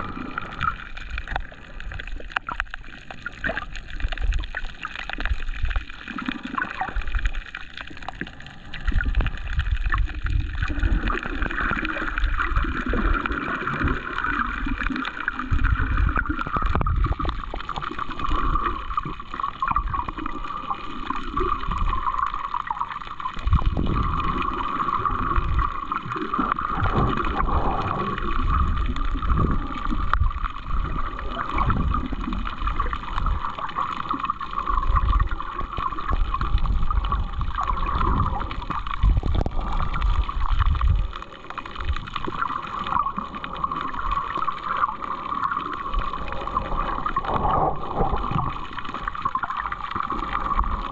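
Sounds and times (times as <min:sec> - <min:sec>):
water sloshing and gurgling: 0:00.0 - 0:50.9.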